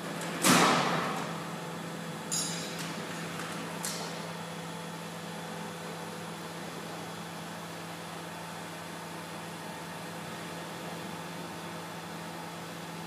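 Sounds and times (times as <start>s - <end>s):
welding machine humming and hissing: 0.0s - 13.0s.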